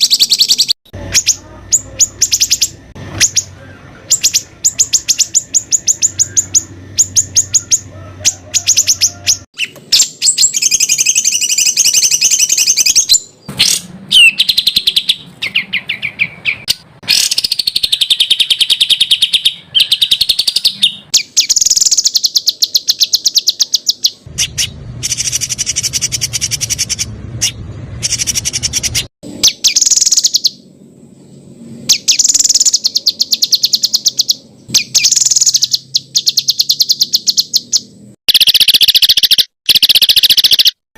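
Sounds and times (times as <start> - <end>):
songbird harsh trilled song: 0.0 - 40.8.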